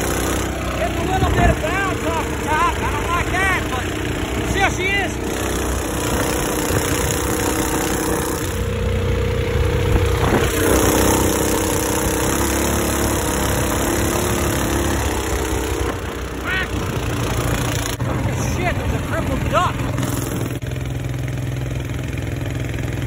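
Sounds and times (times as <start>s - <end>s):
boat engine running hard: 0.0s - 23.0s
propeller spray rushing: 0.0s - 23.0s.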